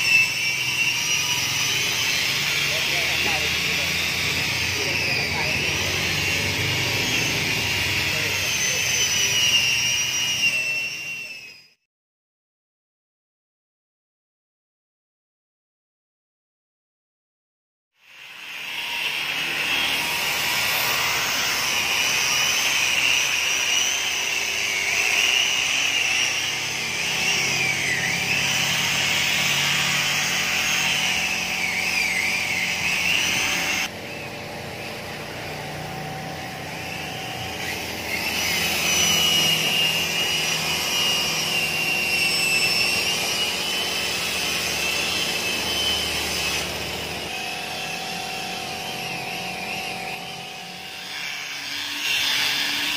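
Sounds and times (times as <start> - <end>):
electric polisher whining: 0.0 - 11.8, 18.0 - 52.9.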